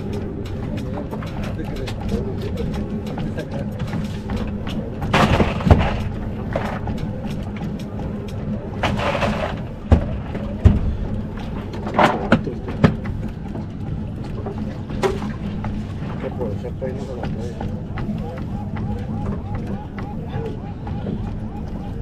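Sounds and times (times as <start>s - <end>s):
boat engine idling: 0.0s - 22.0s
thumps and knocks on boat: 0.0s - 22.0s.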